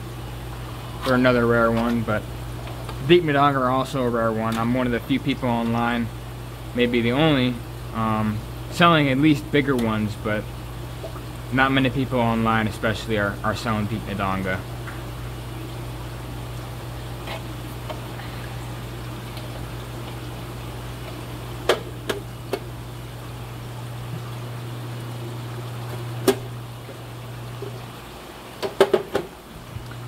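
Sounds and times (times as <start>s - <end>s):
low hum: 0.0s - 28.2s
moving water: 0.0s - 30.0s.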